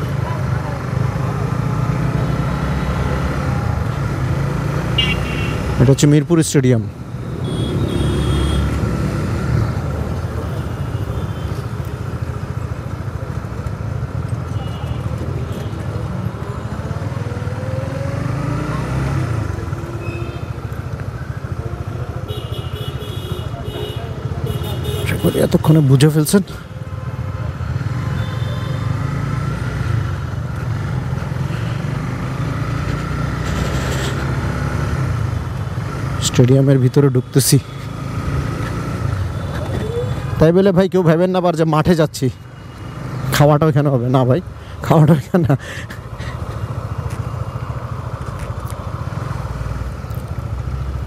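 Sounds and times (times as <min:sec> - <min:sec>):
road noise: 0:00.0 - 0:51.0.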